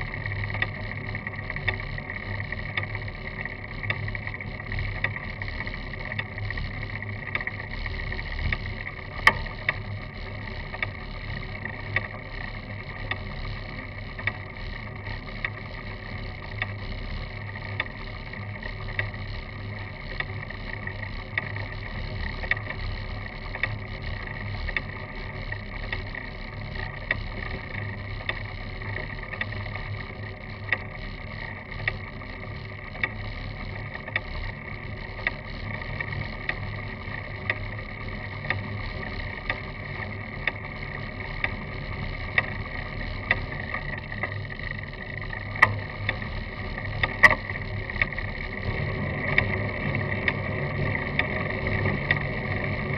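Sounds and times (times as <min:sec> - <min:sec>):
bicycle rolling on road: 0:00.0 - 0:52.9
sharp ticking: 0:00.0 - 0:52.9.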